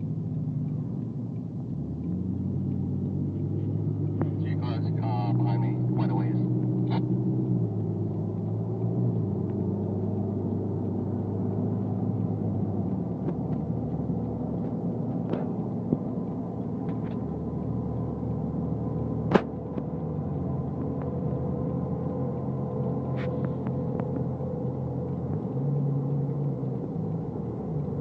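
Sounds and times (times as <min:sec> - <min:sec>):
vehicle engine drone in cabin: 0:00.0 - 0:28.0.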